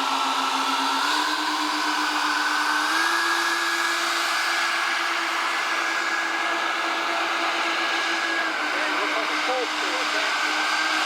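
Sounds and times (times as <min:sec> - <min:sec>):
electric fan motors whining: 0:00.0 - 0:11.0.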